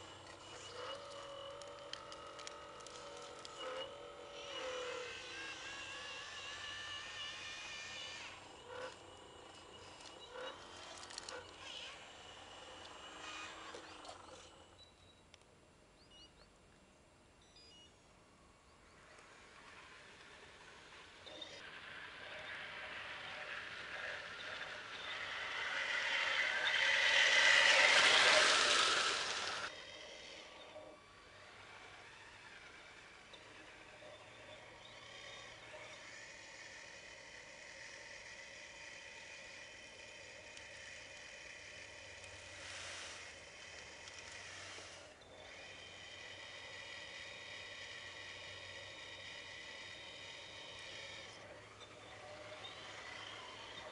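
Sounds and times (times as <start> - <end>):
small electric motors whirring: 0.0 - 15.0, 18.4 - 53.9.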